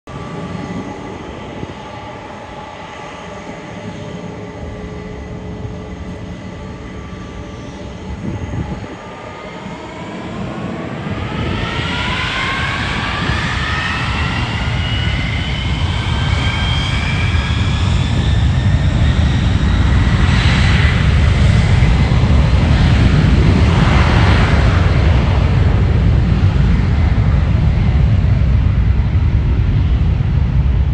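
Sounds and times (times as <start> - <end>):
jet engines whining: 0.1 - 30.9.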